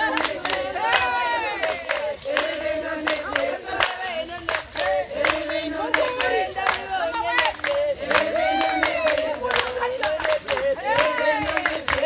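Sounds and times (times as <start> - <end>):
hand claps: 0.0 - 12.0
women singing together: 0.0 - 12.0.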